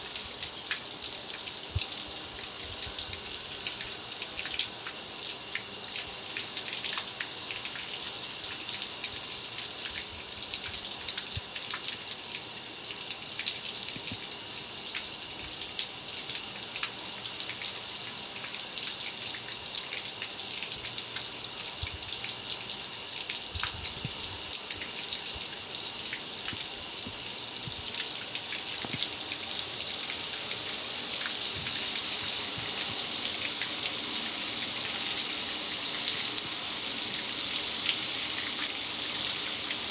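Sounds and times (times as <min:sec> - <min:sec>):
hose water spraying on metal: 0:00.0 - 0:39.9
water dripping off metal: 0:00.0 - 0:39.9.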